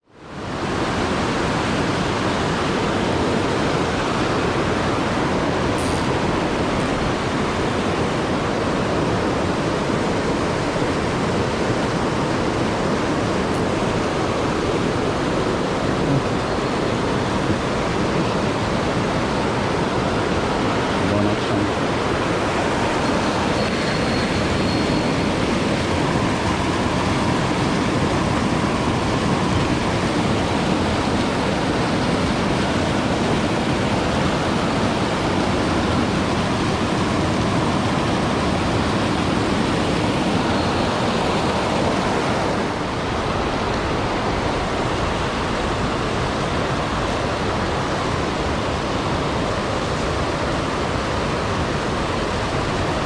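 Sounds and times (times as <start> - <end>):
mountain stream rushing over rocks: 0.0 - 53.0.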